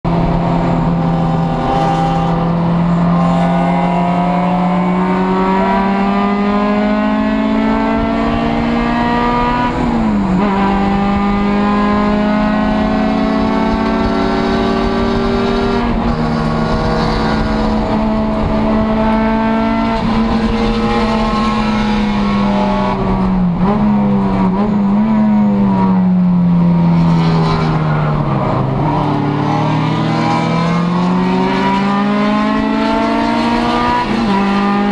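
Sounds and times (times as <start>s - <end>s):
race car engine revving: 0.1s - 34.9s.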